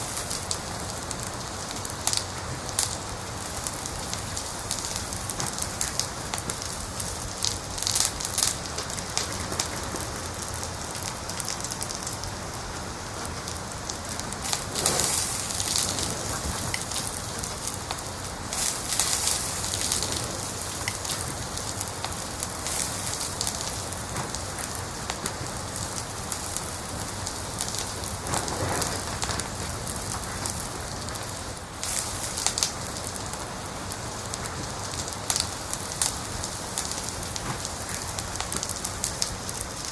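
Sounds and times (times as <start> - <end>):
fire hiss: 0.0 - 39.9
wood fire crackling: 0.0 - 39.9.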